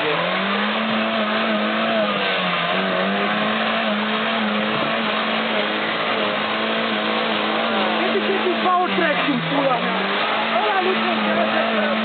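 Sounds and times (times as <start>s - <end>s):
vehicle engine running hard: 0.0s - 12.0s.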